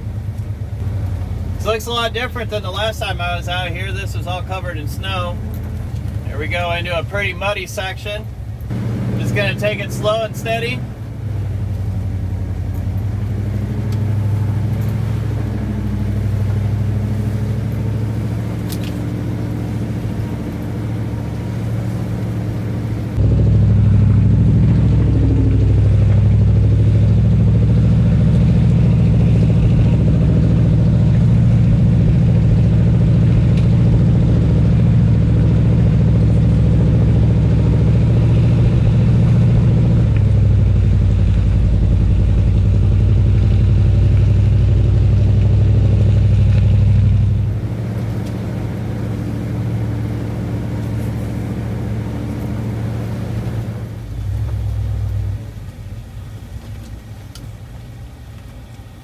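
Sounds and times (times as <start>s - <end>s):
engine humming at low throttle: 0.0s - 59.0s
off-road vehicle engines droning: 0.0s - 59.0s.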